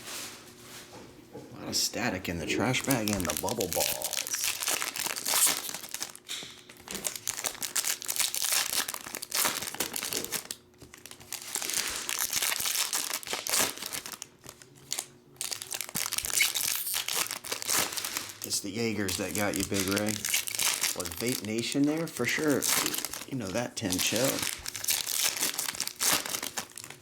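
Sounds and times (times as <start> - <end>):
plastic packaging crinkling: 2.0 - 27.0
packaging tearing: 2.6 - 27.0.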